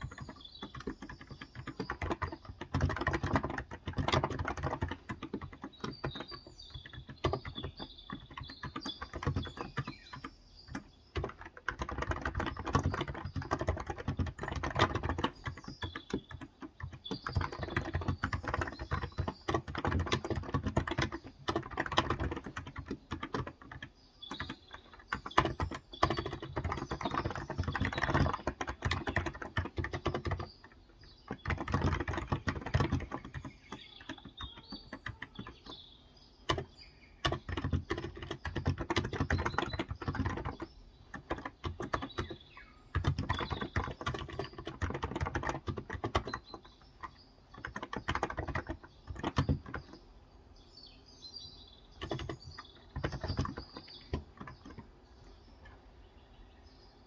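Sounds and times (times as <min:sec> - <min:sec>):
fast keyboard typing: 0:00.0 - 0:50.0, 0:51.9 - 0:55.0
birds chirping faintly: 0:00.0 - 0:57.0.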